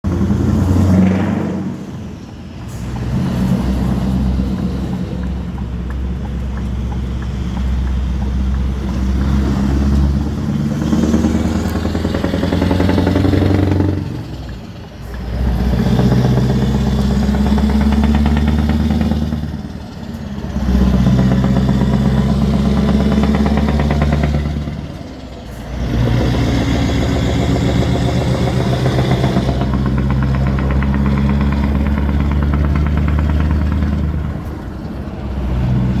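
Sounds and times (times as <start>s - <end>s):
diesel truck engine pulling hard: 0.0s - 36.0s.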